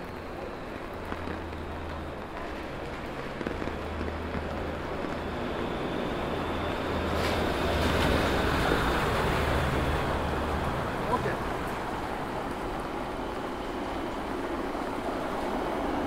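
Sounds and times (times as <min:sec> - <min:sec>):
rain falling: 0:00.0 - 0:16.0
tyres hissing on wet pavement: 0:00.0 - 0:16.0.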